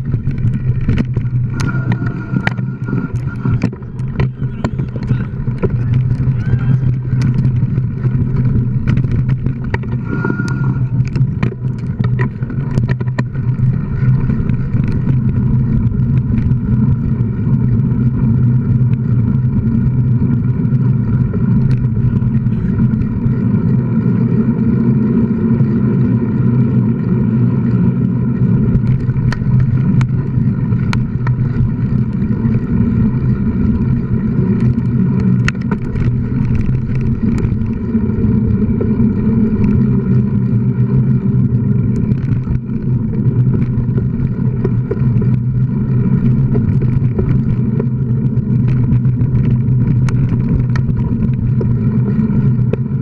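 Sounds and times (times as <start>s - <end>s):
bike tyres on gravel: 0.0s - 53.0s
sharp clicks and rattles: 0.0s - 53.0s
wind rumble: 0.0s - 53.0s.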